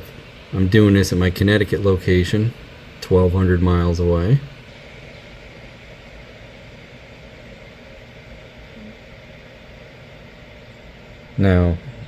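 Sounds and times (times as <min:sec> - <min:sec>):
low hum: 0:00.0 - 0:12.0
steady background hiss: 0:00.0 - 0:12.0.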